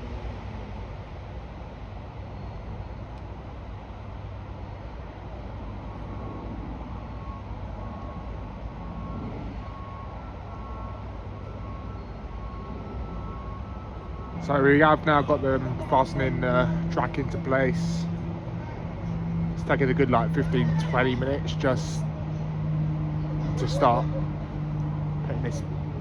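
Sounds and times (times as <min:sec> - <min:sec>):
heavy machinery rumbling: 0:04.8 - 0:26.0
reversing alarm beeping: 0:04.8 - 0:26.0.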